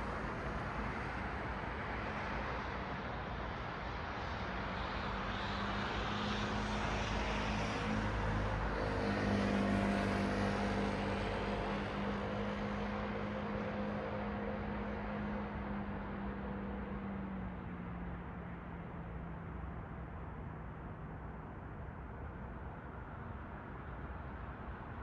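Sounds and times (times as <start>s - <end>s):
passing cars: 4.5s - 25.0s.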